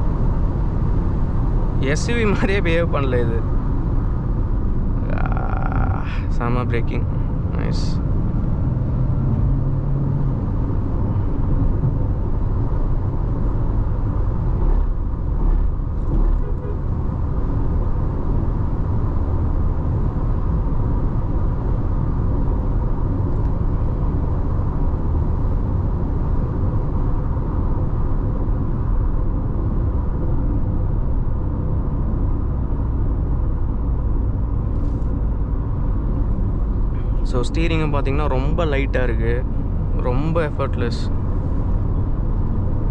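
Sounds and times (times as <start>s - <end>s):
car driving at highway speed: 0.0s - 42.9s.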